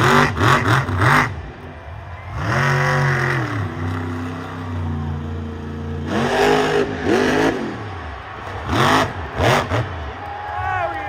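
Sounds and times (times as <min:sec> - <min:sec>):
monster truck engine revving: 0:00.0 - 0:10.3.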